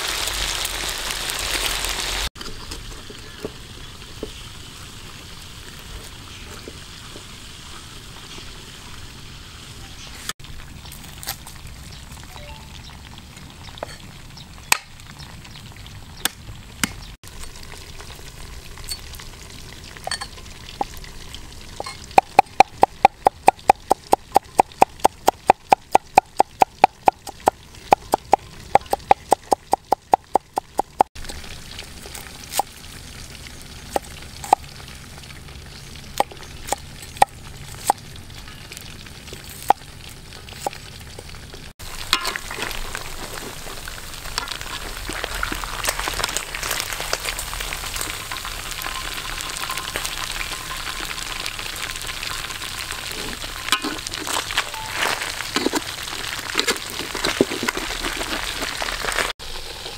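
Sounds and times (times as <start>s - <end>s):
oil sizzling in a wok: 0.0s - 16.2s, 17.3s - 28.8s, 31.2s - 59.9s.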